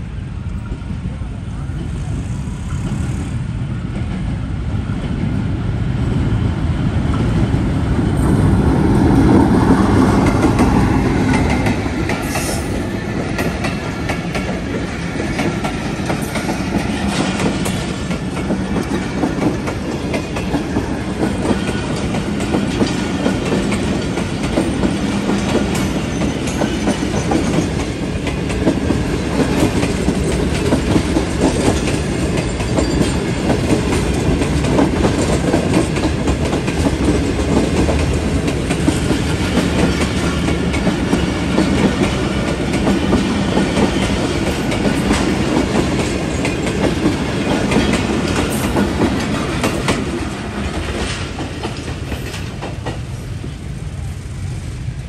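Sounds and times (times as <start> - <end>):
train wheels clattering over rail joints: 8.1 - 53.6.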